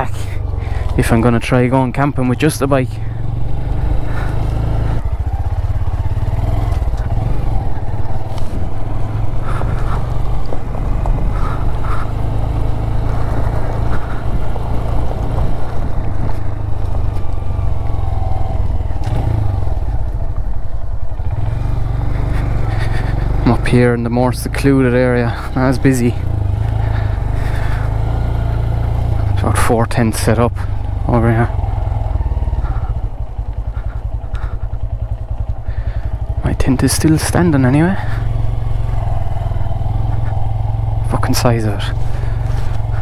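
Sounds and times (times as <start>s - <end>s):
motorcycle engine rumbling: 0.0s - 43.0s.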